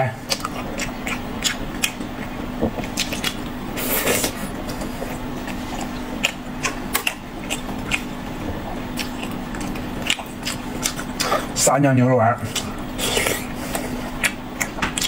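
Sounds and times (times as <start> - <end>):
steady low hum: 0.0 - 15.0
biting and chewing: 0.2 - 11.6, 12.4 - 15.0.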